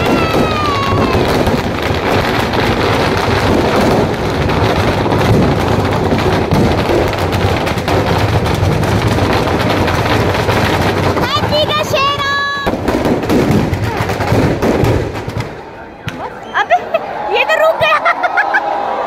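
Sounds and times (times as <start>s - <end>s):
firecrackers crackling: 0.0s - 18.8s.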